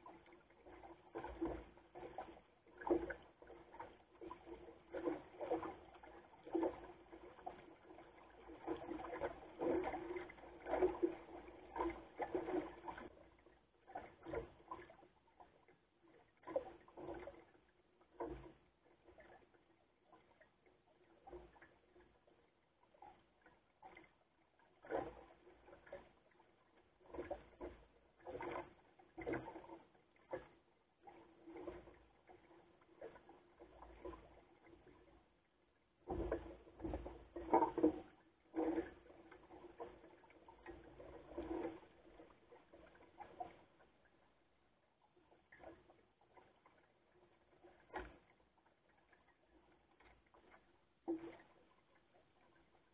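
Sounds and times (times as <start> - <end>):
water lapping against hull: 0.0 - 52.9.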